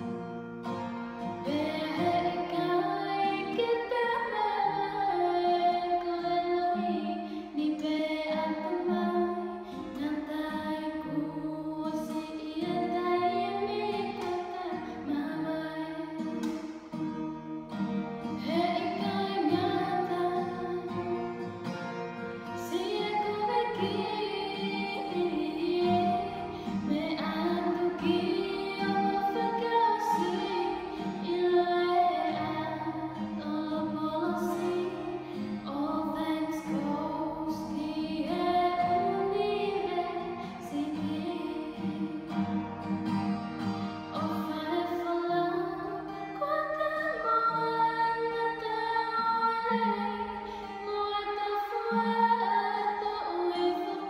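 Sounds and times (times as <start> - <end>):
strummed acoustic guitar: 0.0 - 54.0
woman singing: 1.2 - 16.6, 18.2 - 21.5, 22.4 - 42.7, 44.0 - 54.0.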